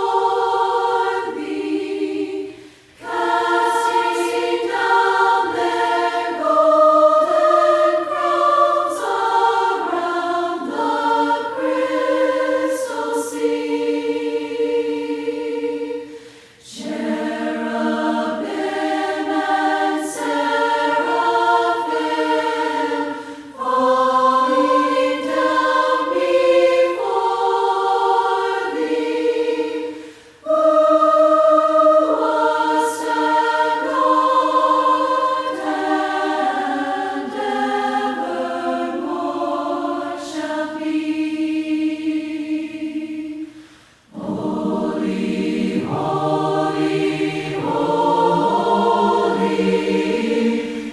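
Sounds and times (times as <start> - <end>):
group singing a hymn a cappella: 0.0 - 50.9.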